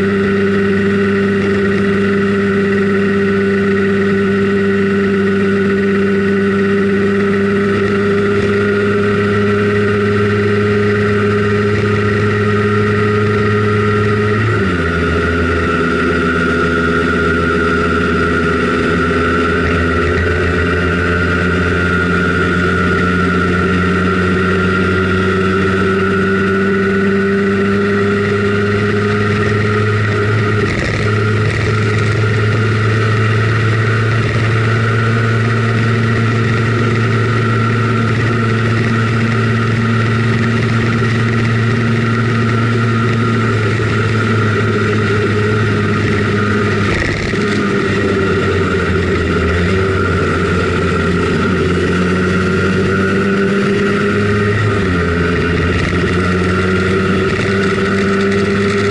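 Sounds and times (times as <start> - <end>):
scooter engine running: 0.0 - 58.9.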